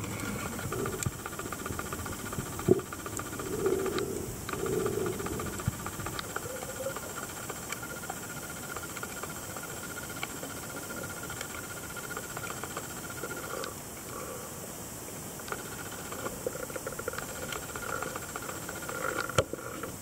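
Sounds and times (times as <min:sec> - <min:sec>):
thin steady whine: 0:00.0 - 0:20.0.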